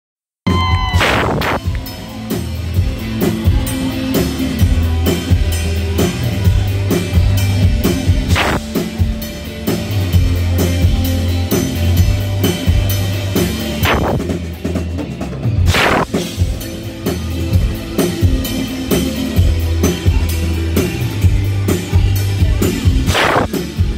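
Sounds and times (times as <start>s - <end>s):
bass line: 0.5s - 23.9s
drum kit beat: 0.5s - 23.9s
rock band playing live: 0.5s - 23.9s.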